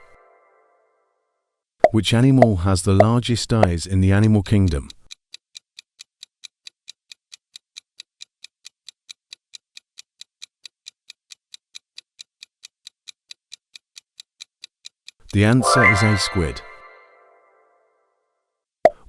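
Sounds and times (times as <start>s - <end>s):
clock ticking: 1.8s - 17.6s.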